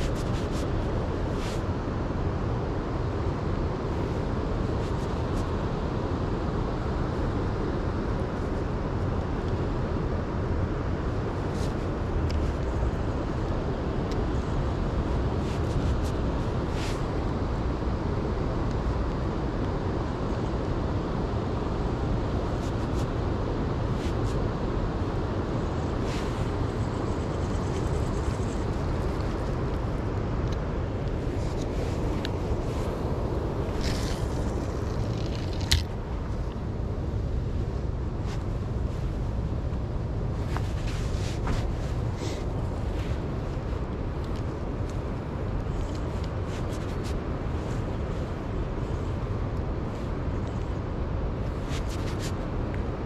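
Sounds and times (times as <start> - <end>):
low outdoor rumble: 0.0 - 53.0.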